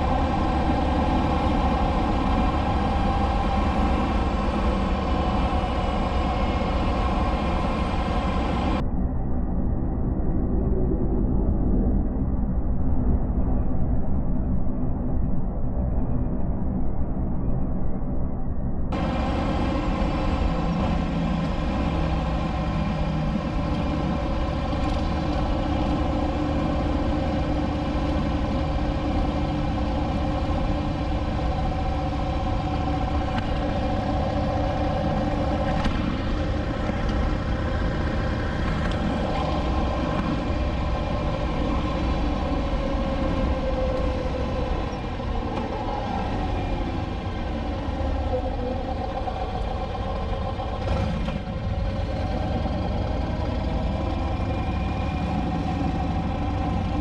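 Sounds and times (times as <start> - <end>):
motorcycle engine running: 0.0 - 8.8, 19.0 - 57.0
road and wind rumble: 0.0 - 57.0.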